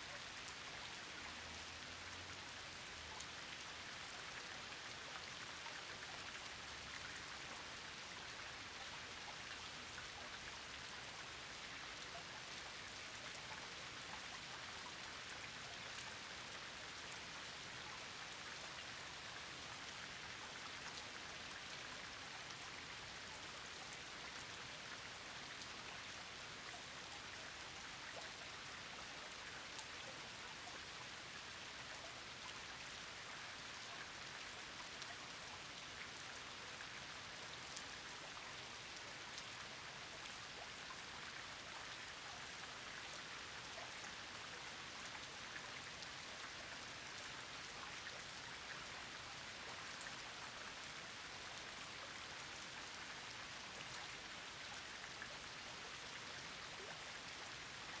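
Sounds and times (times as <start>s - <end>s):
rain pattering on a pond: 0.0s - 58.0s.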